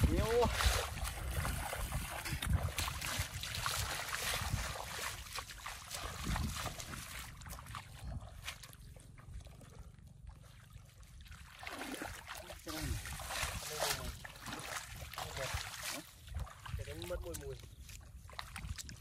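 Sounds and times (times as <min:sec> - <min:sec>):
bare feet splashing in muddy water: 0:00.0 - 0:19.0.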